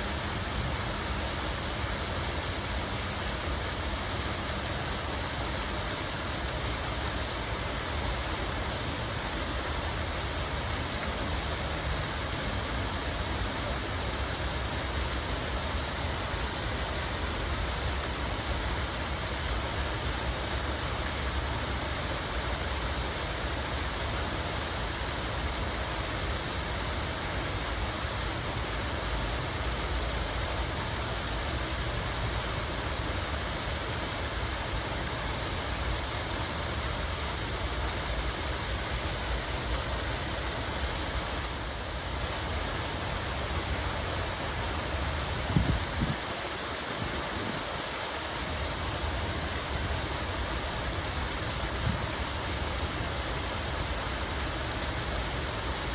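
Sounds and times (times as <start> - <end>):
flowing water rushing: 0.0 - 55.9.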